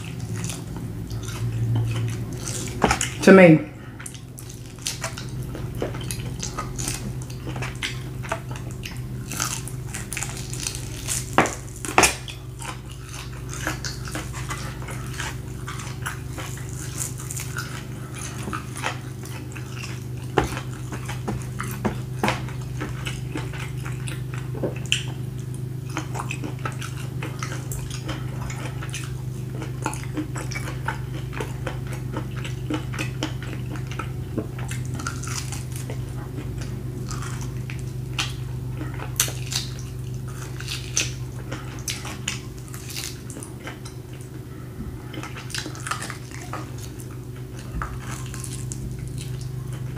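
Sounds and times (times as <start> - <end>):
person chewing meat: 0.0 - 49.9
steady low hum: 0.0 - 49.9.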